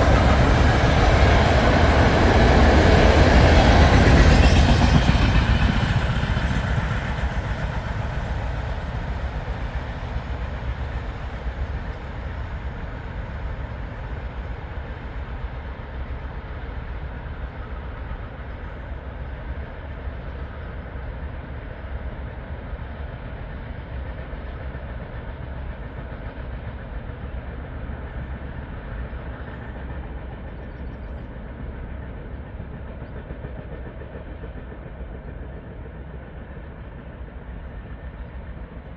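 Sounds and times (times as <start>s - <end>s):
train rumble and wheel clatter: 0.0s - 38.9s.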